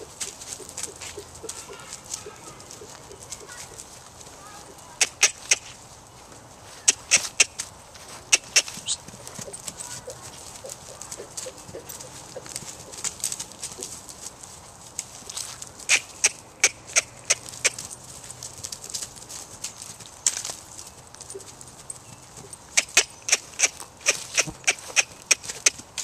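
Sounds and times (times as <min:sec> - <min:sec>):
pony hoofbeats on grass: 0:00.0 - 0:26.0.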